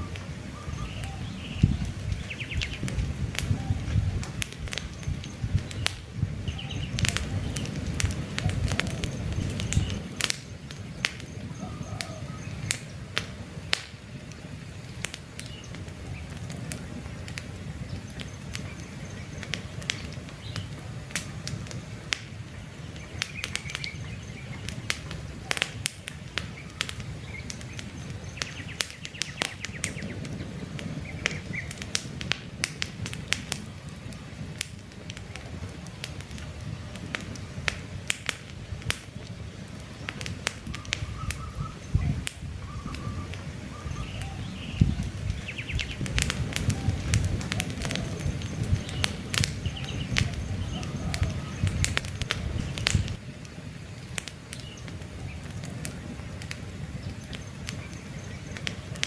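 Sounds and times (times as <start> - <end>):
birds chirping faintly: 0.0 - 32.0, 38.7 - 59.0
campfire crackling and popping: 0.0 - 59.0
low rumble of flames: 0.0 - 59.0.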